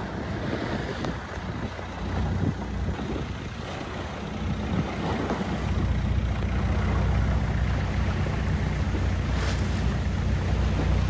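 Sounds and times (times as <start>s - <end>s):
boat engine droning: 0.0s - 11.0s
water noise: 0.0s - 11.0s
wind: 0.0s - 11.0s.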